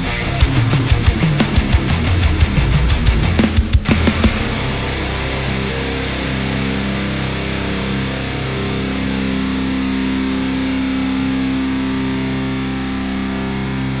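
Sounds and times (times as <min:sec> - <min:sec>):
rock music with distorted guitar: 0:00.0 - 0:14.0.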